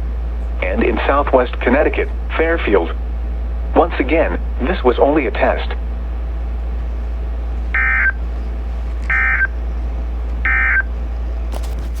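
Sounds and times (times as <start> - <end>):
low receiver hum: 0.0 - 12.0.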